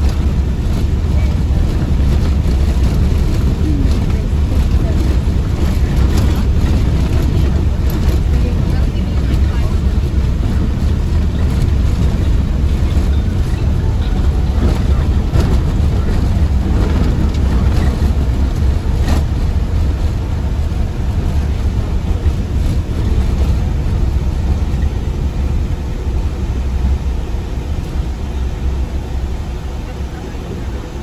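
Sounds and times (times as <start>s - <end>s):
van engine and road rumble: 0.0s - 31.0s.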